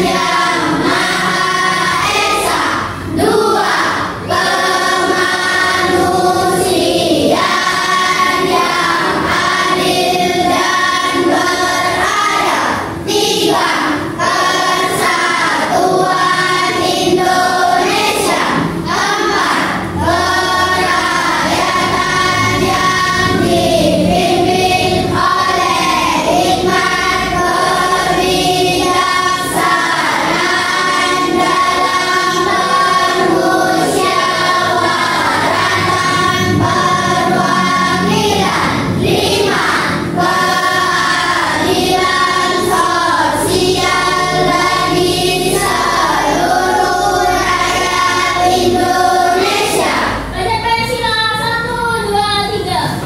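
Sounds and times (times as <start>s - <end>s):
children singing in unison: 0.0s - 50.6s.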